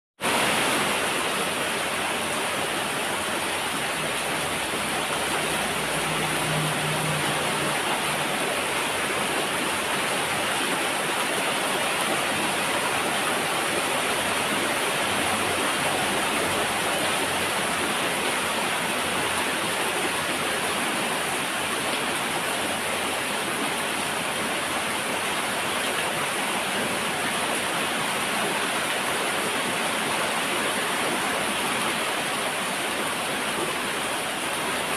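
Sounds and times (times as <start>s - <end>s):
steady rain falling: 0.2s - 34.9s.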